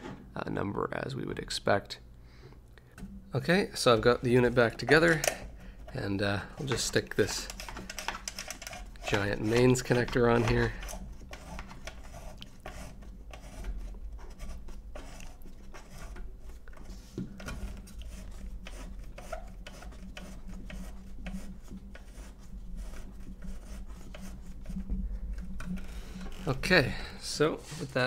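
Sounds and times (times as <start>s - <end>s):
coupling ring scraping: 3.4s - 28.0s.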